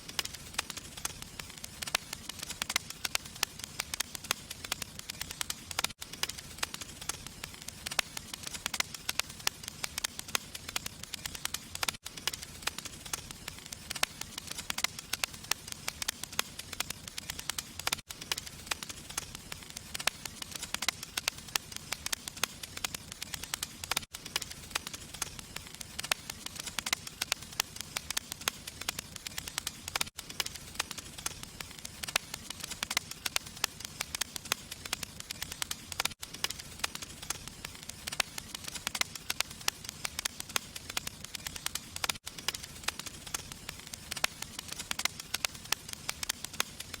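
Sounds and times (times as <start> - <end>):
fire crackling and popping: 0.0 - 47.0.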